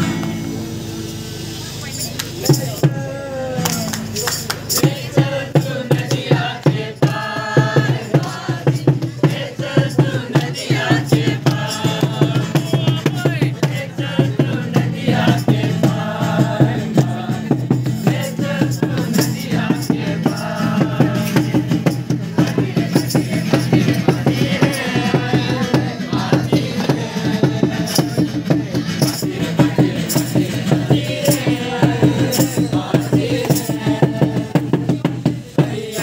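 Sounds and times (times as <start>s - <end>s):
group singing a carol: 4.6s - 36.0s
hand drum steady beat: 4.7s - 36.0s.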